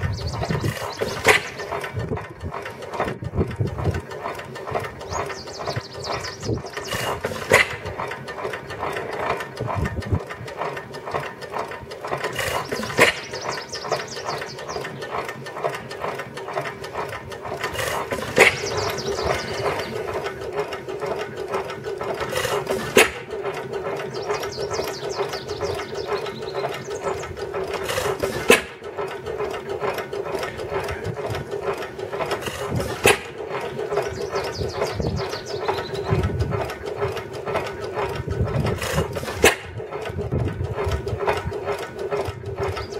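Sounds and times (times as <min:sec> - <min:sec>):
stationary engine clatter: 0:00.0 - 0:42.9.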